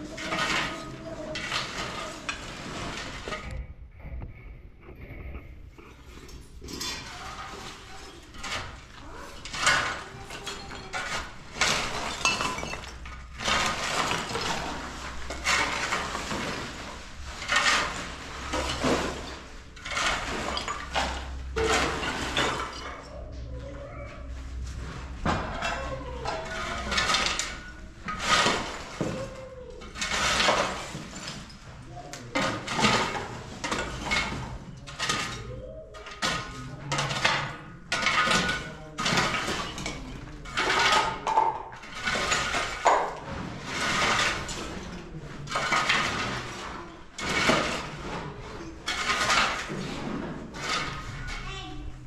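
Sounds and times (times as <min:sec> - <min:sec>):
hard objects clattering and knocking: 0:00.0 - 0:52.0.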